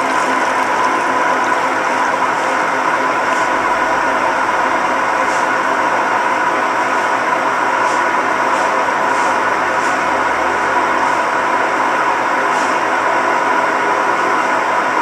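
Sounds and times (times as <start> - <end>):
washing machine grinding hum: 0.0 - 15.0.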